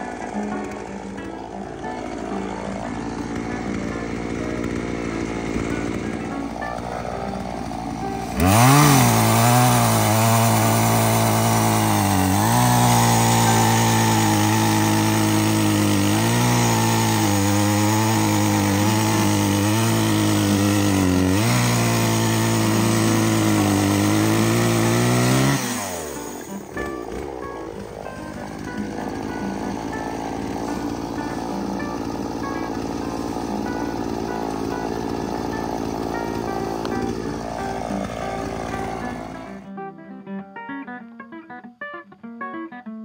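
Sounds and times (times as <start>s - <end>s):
chainsaw cutting log: 0.0s - 39.7s.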